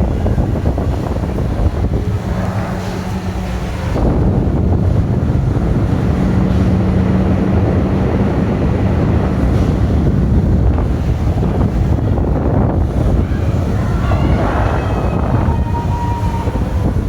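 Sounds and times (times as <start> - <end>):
air buffeting microphone: 0.0 - 17.0
exhaust fan humming: 0.0 - 17.0.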